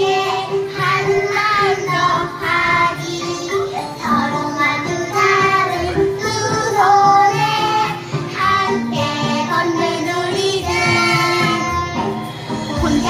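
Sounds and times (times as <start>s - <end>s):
children singing: 0.0s - 13.0s
musical accompaniment: 0.0s - 13.0s.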